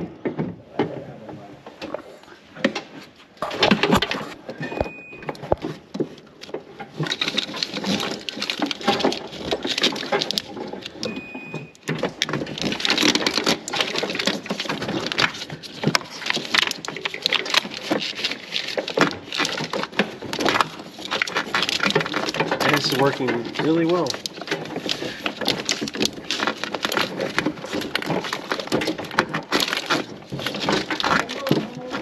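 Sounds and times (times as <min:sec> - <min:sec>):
wires rustling and scraping: 0:00.0 - 0:32.0.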